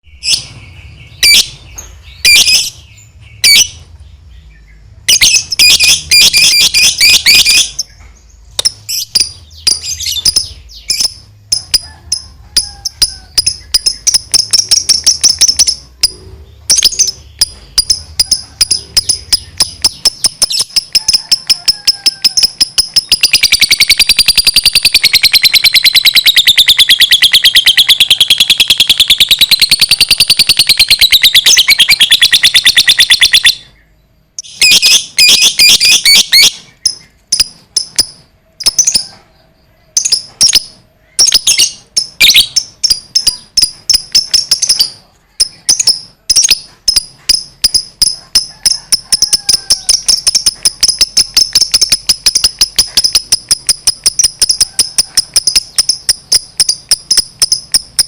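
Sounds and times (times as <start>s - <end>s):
lovebird chirping and trilling: 0.0s - 58.0s.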